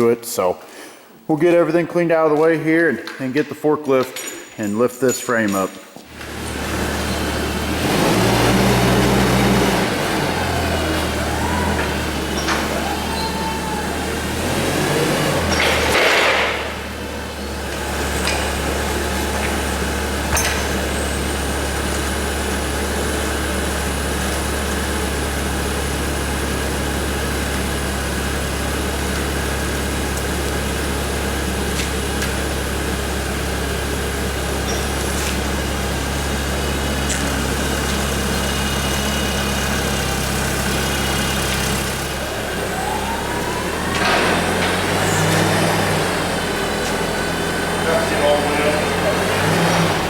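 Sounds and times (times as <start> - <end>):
forklift engine idling: 6.1 - 50.0.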